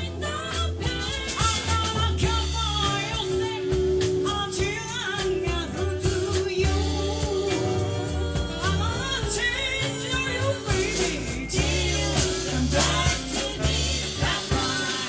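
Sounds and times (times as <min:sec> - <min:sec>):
bass: 0:00.0 - 0:15.0
drums: 0:00.0 - 0:15.0
guitars: 0:00.0 - 0:15.0
keyboard: 0:00.0 - 0:15.0
lead vocal singing: 0:00.0 - 0:15.0.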